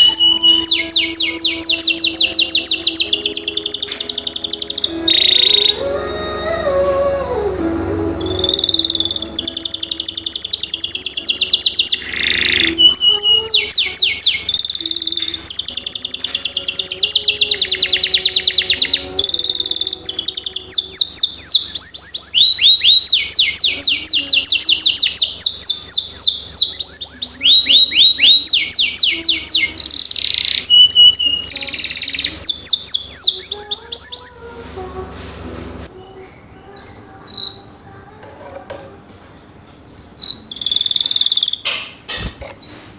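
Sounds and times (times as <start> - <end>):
canary singing trills: 0.0 - 34.7, 35.8 - 38.7, 39.5 - 42.9.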